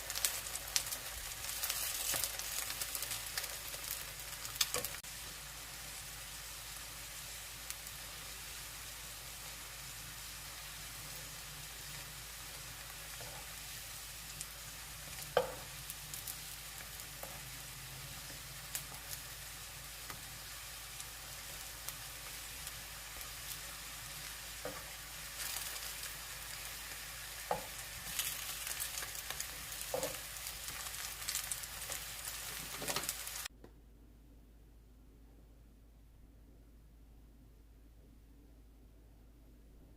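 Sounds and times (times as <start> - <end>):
pancakes sizzling in frying pan: 0.0 - 33.5.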